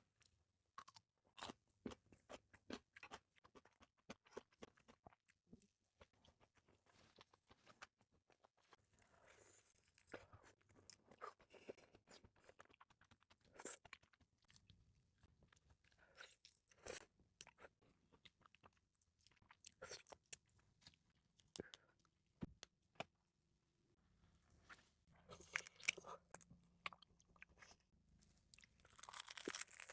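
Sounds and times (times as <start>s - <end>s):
chewing and wet mouth sounds: 0.2s - 22.1s, 25.2s - 29.9s.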